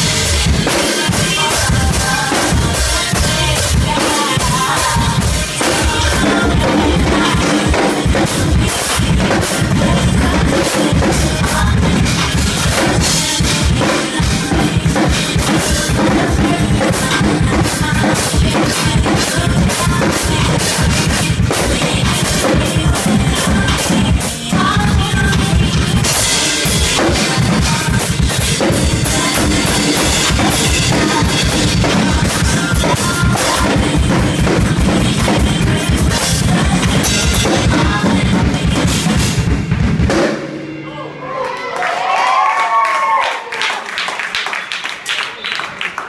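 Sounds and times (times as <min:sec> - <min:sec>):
bass drum: 0:00.0 - 0:40.5.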